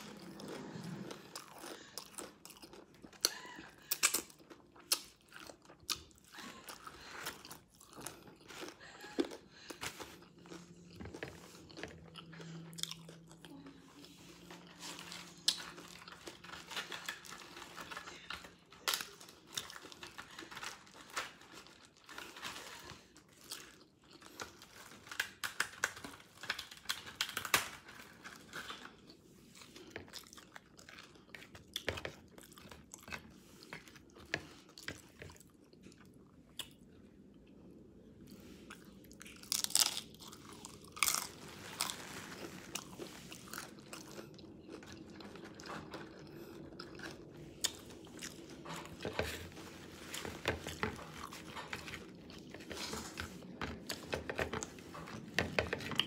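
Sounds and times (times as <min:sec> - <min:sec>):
chewing crunchy tacos: 0:00.0 - 0:56.0.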